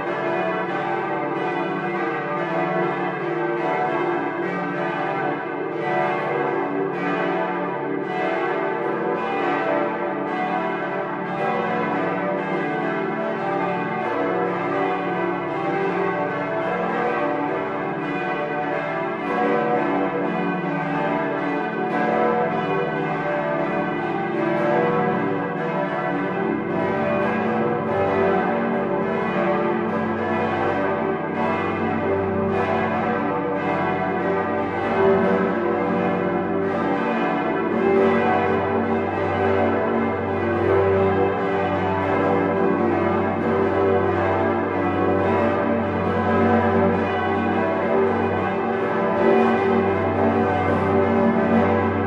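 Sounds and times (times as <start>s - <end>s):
church bells pealing: 0.0s - 52.0s.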